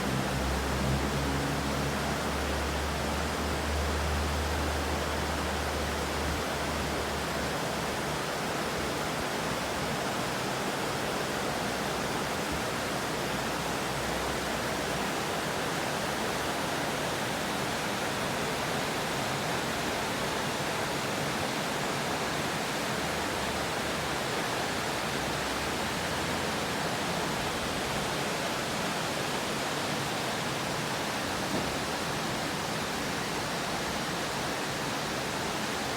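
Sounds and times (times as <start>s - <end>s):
river water rushing: 0.0s - 35.9s.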